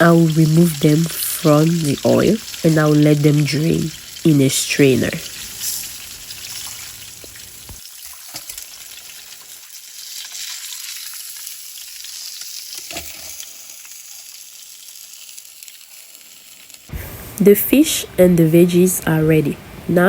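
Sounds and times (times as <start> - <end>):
oil sizzling in a pan: 0.0 - 18.0.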